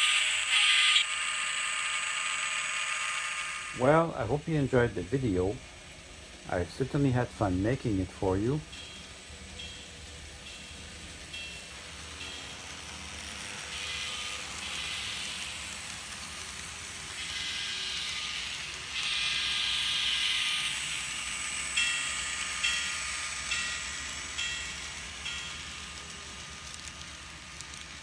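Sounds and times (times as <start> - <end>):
model train hissing rush: 0.0 - 28.0.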